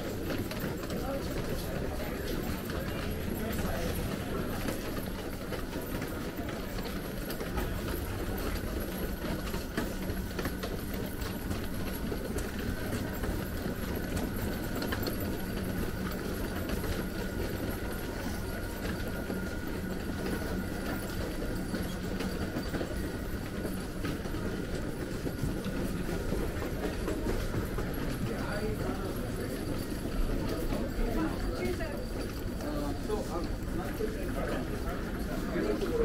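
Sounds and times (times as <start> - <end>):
suitcase wheels rolling over tiles: 0.0 - 36.0.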